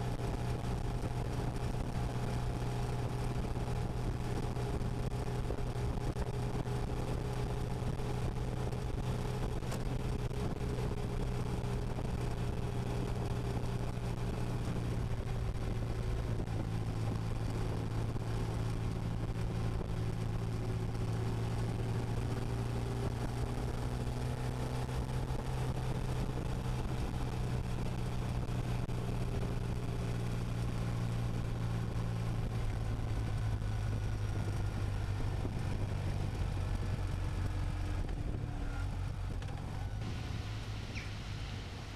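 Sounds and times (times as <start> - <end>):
motorcycle engine running: 0.0 - 41.9
wind and road noise: 0.0 - 41.9.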